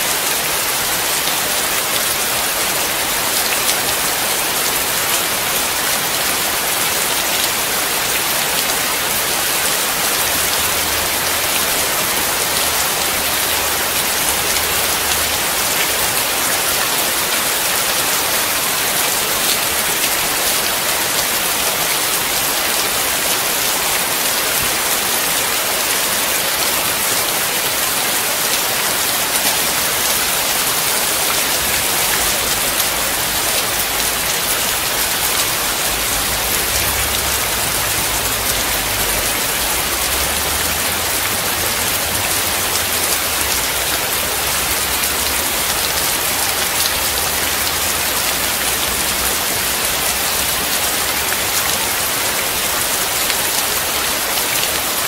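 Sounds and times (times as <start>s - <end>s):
steady rain on wet surface: 0.0s - 55.0s.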